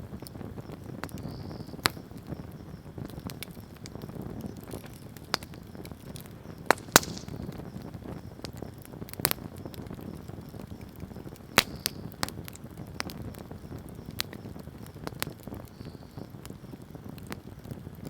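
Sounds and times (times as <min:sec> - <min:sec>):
bonfire crackling and popping: 0:00.0 - 0:18.0
low rush of burning: 0:00.0 - 0:18.0.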